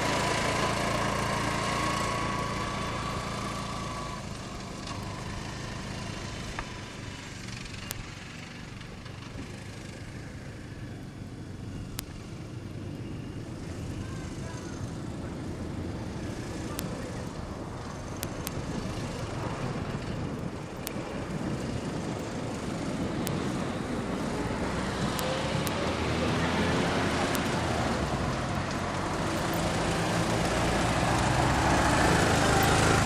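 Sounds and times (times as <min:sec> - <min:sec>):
quad bike engine running: 0:00.0 - 0:33.0.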